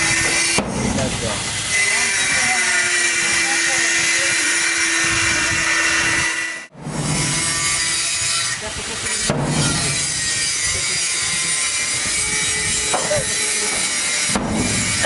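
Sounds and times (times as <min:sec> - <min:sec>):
rasping scraping noise: 0:00.0 - 0:15.0.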